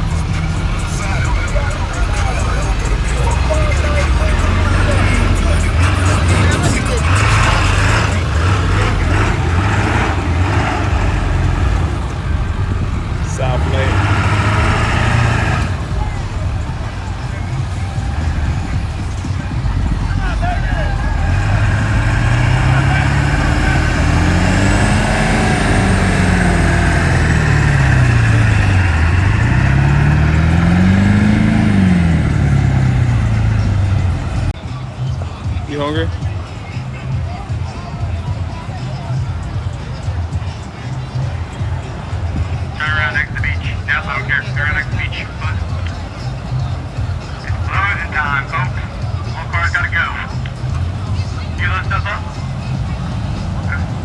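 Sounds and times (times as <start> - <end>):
pickup trucks driving by: 0.0 - 54.0.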